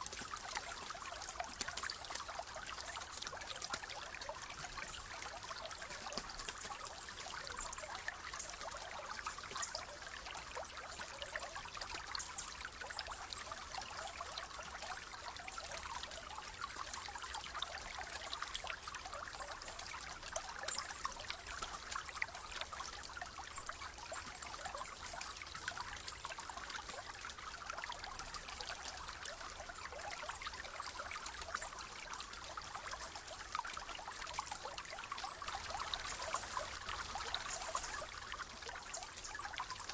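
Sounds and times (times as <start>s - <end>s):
stream splashing over stones: 0.0s - 39.9s.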